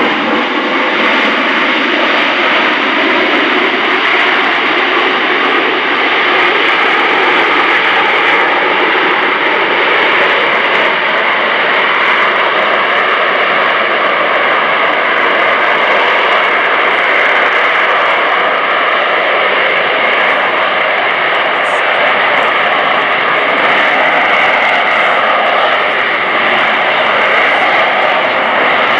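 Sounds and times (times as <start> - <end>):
jet engine running: 0.0 - 28.9.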